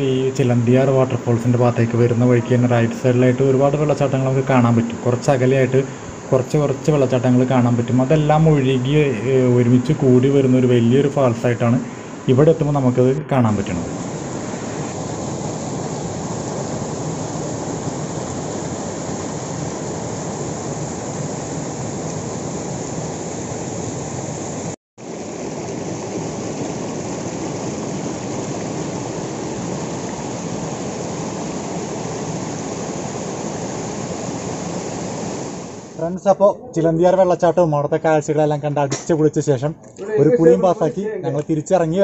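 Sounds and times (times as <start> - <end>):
water rushing over boulders: 0.0 - 36.1.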